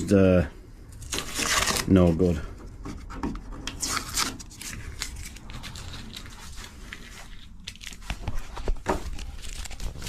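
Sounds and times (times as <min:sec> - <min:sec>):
crinkling and scraping of handling: 0:00.0 - 0:10.0.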